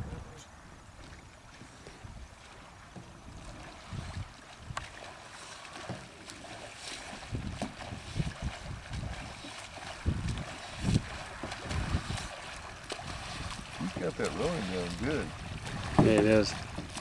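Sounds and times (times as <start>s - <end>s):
wind gusts on microphone: 0.0s - 5.1s, 7.0s - 17.0s
paddle strokes splashing water: 0.9s - 17.0s.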